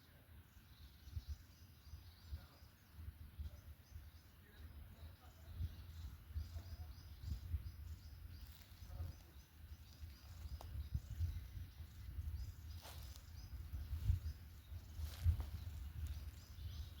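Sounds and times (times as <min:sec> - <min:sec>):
small songbirds chirping: 0:00.0 - 0:17.0.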